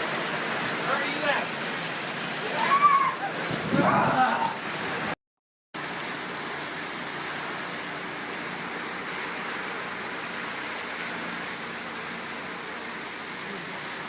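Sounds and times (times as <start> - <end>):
heavy rain pouring: 0.0 - 5.2, 5.8 - 14.0.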